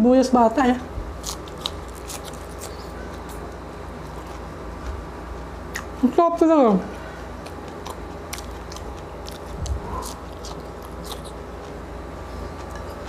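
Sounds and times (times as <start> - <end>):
chewing roast pork: 0.8 - 6.0, 6.9 - 13.0.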